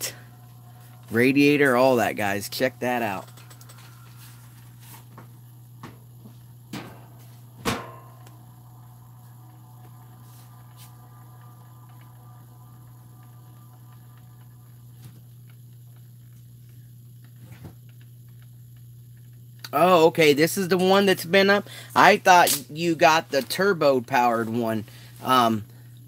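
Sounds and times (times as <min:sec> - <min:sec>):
turntable motor humming: 0:00.0 - 0:26.0.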